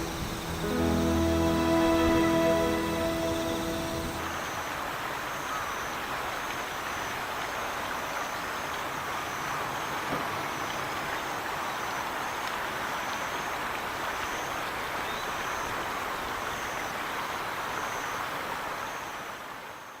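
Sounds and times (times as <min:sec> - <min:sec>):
stream rushing: 0:00.0 - 0:16.4.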